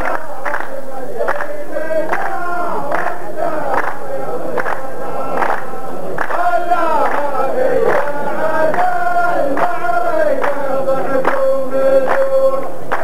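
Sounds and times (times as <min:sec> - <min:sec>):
group hand claps: 0:00.0 - 0:13.0
men chanting in unison: 0:00.0 - 0:13.0.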